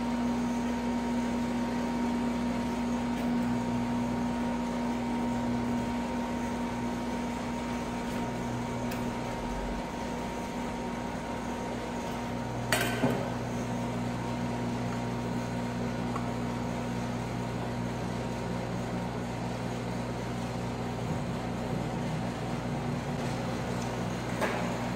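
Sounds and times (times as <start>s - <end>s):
refrigeration unit humming: 0.0s - 24.9s.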